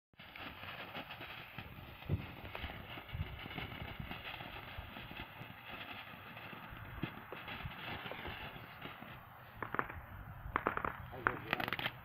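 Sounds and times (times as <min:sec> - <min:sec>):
crackling pops: 0:00.2 - 0:12.0
firework fountain hissing: 0:00.2 - 0:12.0.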